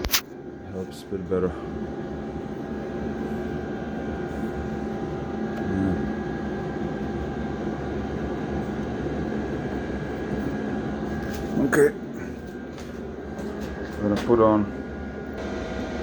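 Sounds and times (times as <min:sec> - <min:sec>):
faint constant hum: 0:00.0 - 0:16.0.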